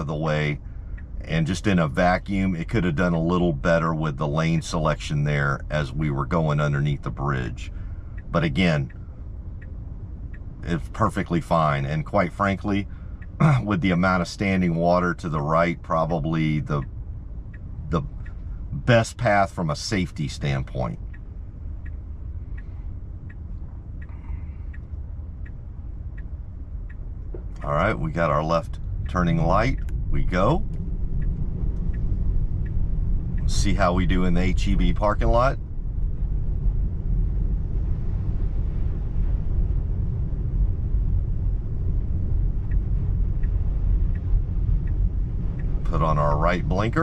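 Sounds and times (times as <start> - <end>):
low cabin rumble: 0.0 - 47.0
turn signal ticking: 0.0 - 47.0.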